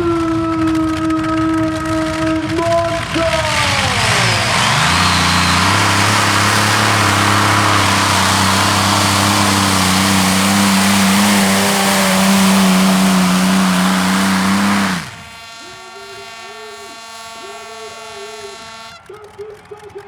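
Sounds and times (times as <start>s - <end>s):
pulling tractor engines at full throttle: 0.0s - 20.0s.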